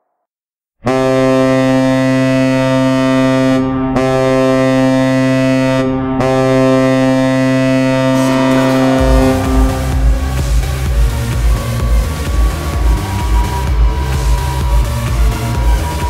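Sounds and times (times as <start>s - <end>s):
deep air horn blast: 0.8s - 14.9s.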